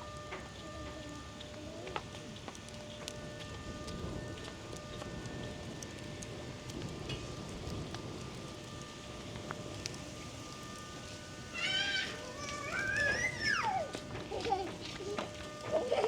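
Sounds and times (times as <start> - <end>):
faint steady tones: 0.0 - 16.0
wood fire crackling: 0.0 - 16.0.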